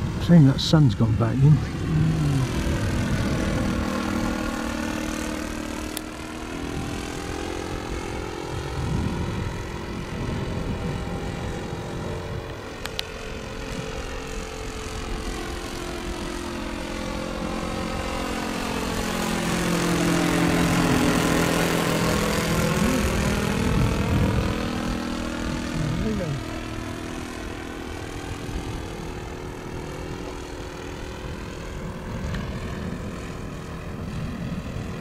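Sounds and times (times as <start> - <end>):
model airplane engine flying overhead: 0.0 - 35.0.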